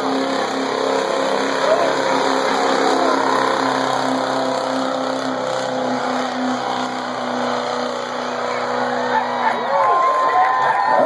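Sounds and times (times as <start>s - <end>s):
diesel truck engine at full throttle: 0.0s - 11.0s.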